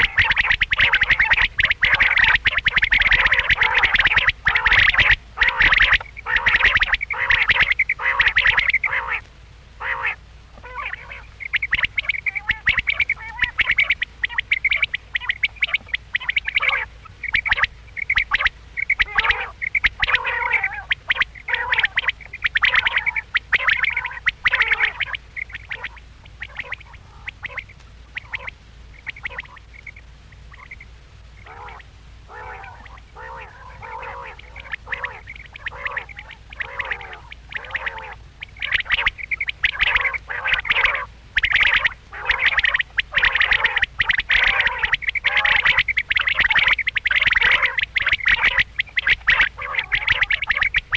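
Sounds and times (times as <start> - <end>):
faint steady low hum: 0.0 - 50.9
quail calling: 0.0 - 50.9.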